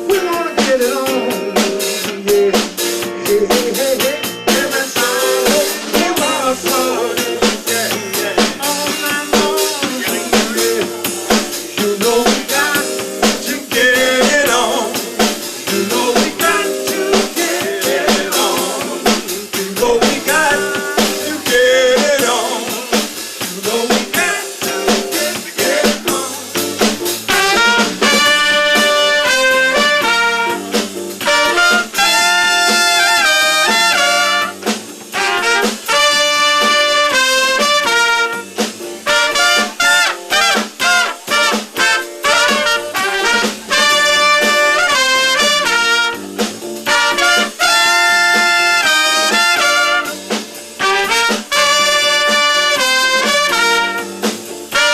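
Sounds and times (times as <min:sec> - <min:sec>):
drum kit: 0:00.0 - 0:54.9
horn section playing chords: 0:04.5 - 0:23.0, 0:27.2 - 0:54.9.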